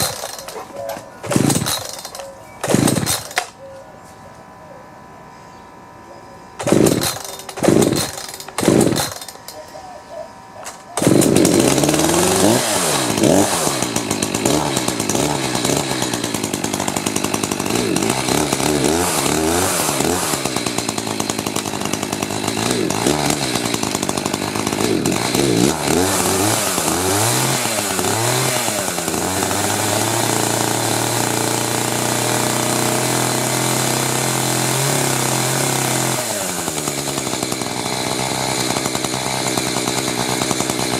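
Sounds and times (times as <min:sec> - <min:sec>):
chainsaw engine running: 0:00.0 - 0:03.6, 0:06.6 - 0:40.9
chainsaw pull-starter pulls: 0:00.0 - 0:03.6, 0:06.6 - 0:09.6, 0:10.6 - 0:40.9.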